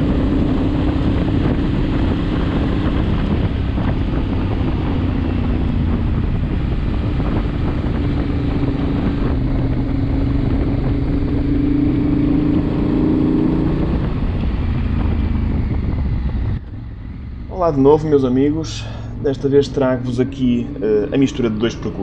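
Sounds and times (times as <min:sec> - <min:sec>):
motorcycle engine cruising: 0:00.0 - 0:22.0
wind rushing over microphone: 0:00.0 - 0:22.0.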